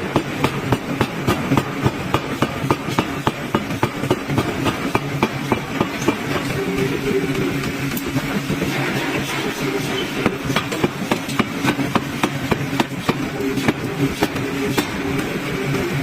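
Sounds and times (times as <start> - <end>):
forging hammer striking iron: 0.0 - 6.9, 9.0 - 15.4
machine humming: 0.0 - 16.0.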